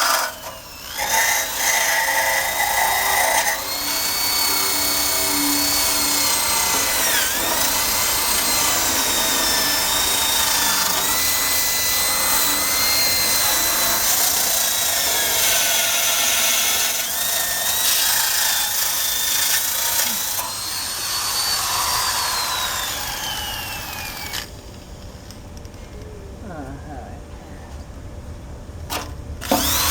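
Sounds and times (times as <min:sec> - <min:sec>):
power drill with wire brush on metal: 0:00.0 - 0:24.6, 0:28.9 - 0:29.9.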